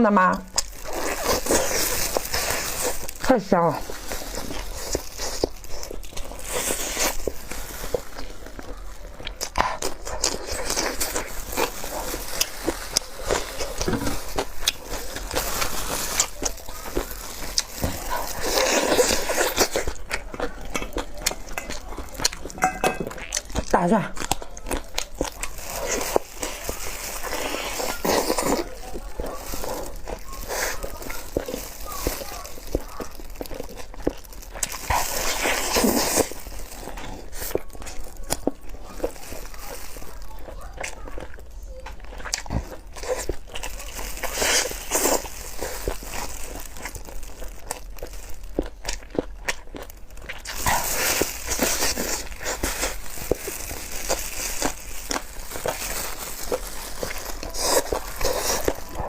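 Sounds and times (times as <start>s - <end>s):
loud crackling crunch: 0.4s - 59.0s
wet chewing and lip-smacking: 0.4s - 59.0s.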